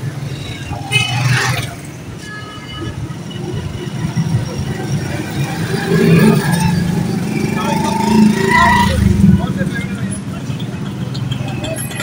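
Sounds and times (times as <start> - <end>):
faint voices: 1.8 - 12.0.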